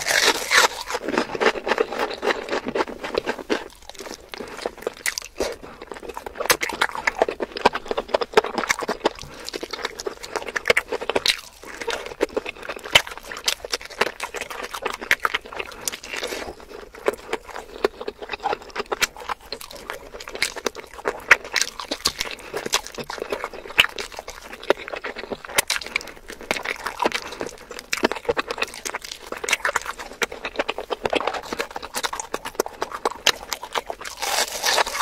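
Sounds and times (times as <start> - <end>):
chewing and biting chicken: 0.0 - 35.0.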